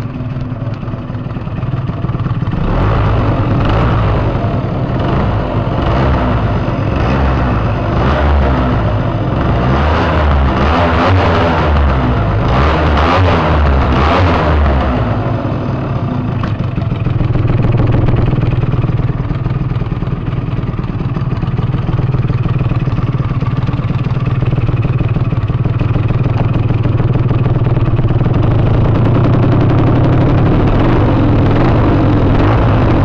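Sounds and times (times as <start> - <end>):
two-stroke scooter engine running: 0.0 - 33.0.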